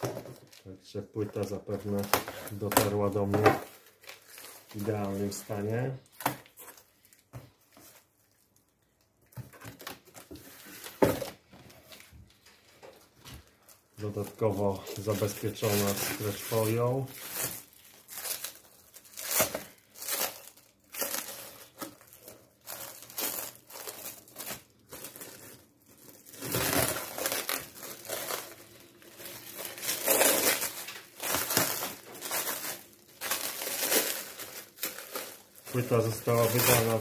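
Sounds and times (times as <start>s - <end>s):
plastic film crinkling: 0.0s - 37.0s.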